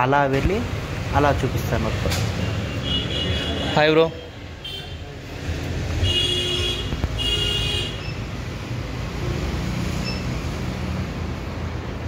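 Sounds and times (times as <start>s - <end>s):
road traffic rumbling: 0.0s - 12.0s.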